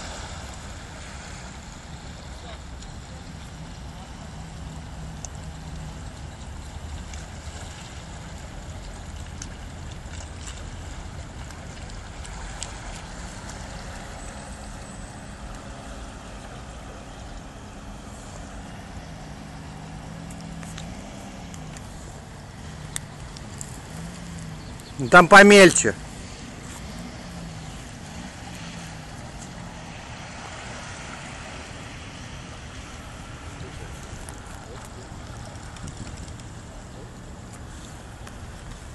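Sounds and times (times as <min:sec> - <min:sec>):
car engine running at low revs: 0:00.0 - 0:38.9
wheels pushing through water: 0:00.0 - 0:38.9.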